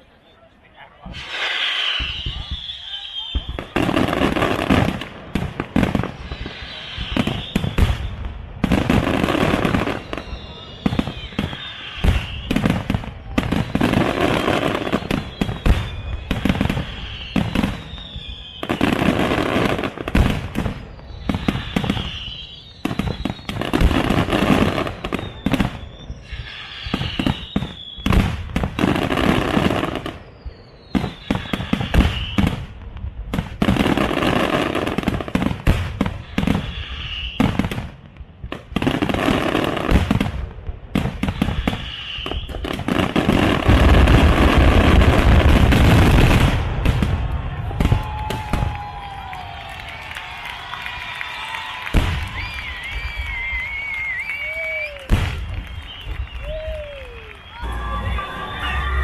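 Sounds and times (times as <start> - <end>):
fireworks bangs and crackling: 0.0 - 59.0
whistling firework shells: 0.2 - 59.0.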